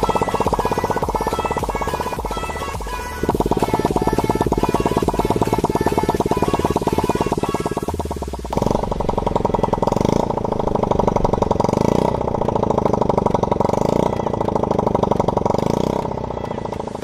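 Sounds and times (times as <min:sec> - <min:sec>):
small kart engine running: 0:00.0 - 0:17.0.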